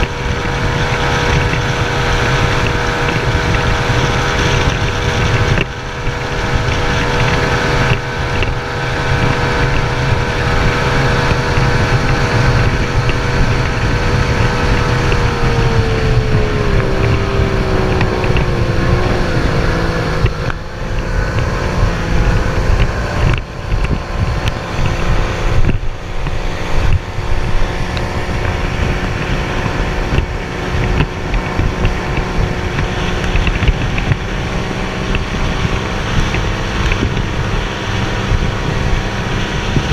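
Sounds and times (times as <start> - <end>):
outboard motor whining: 0.0 - 39.9
wind buffeting microphone: 0.0 - 39.9.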